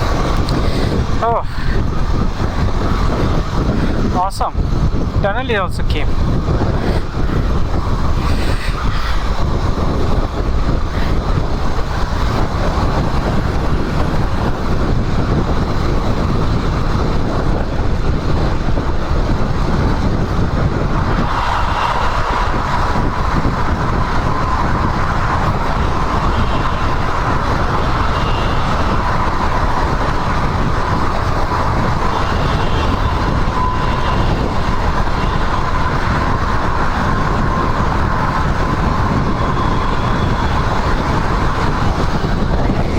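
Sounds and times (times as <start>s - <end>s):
riding noise rush: 0.0s - 42.9s
steady high whine: 0.0s - 42.9s.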